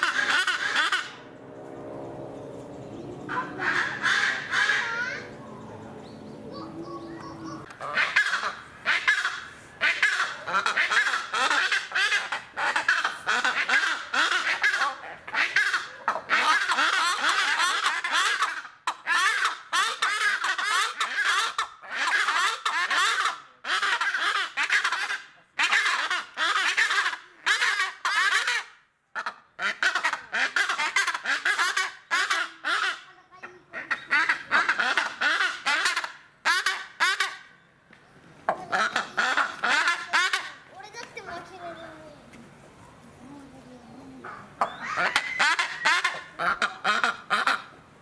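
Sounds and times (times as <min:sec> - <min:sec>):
birds croaking calls: 0:00.0 - 0:47.8.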